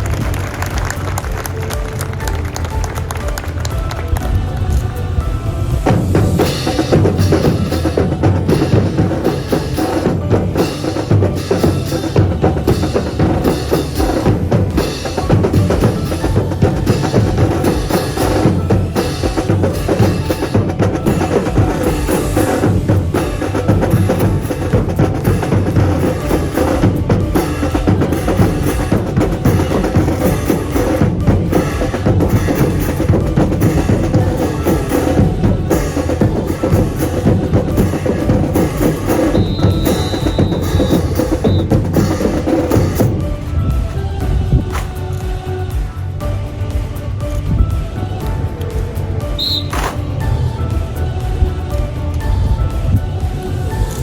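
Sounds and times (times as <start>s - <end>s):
brass band playing: 0.0s - 44.0s
sharp drum strokes: 0.0s - 54.0s.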